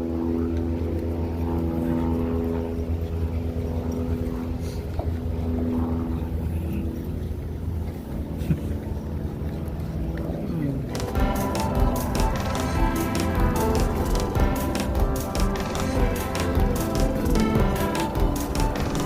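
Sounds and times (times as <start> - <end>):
low rumble: 0.0 - 19.0
propeller plane engine droning: 0.0 - 19.0.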